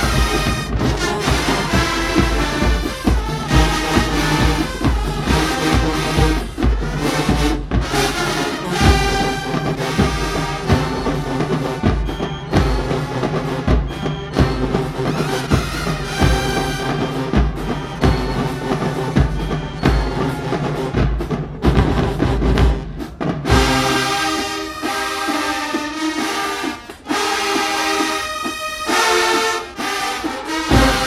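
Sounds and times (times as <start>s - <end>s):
drumline beat: 0.0s - 31.0s
marching band brass: 0.0s - 31.0s.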